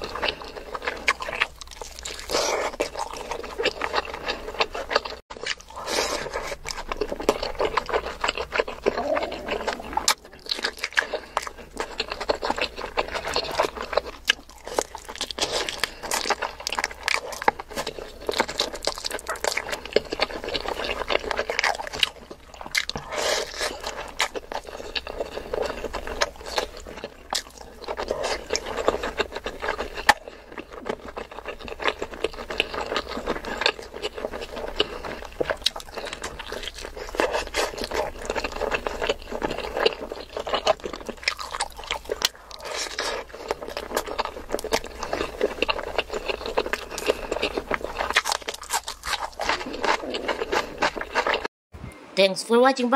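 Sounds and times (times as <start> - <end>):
person chewing food: 0.0 - 51.5.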